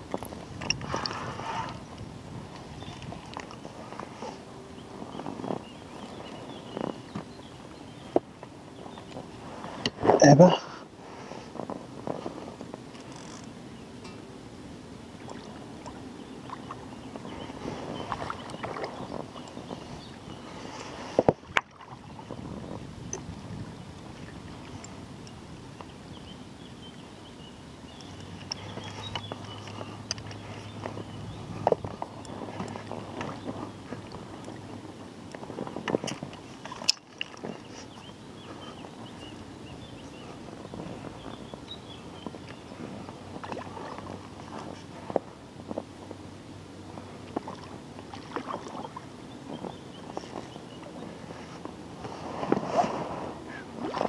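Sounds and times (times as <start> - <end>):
water splashing around boat: 0.0 - 54.0.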